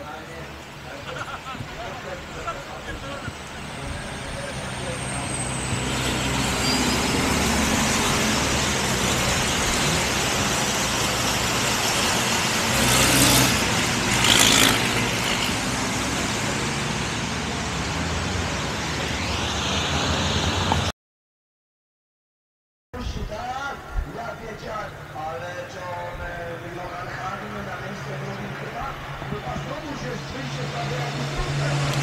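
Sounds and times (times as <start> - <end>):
truck diesel engines: 0.0 - 20.9, 23.0 - 32.0.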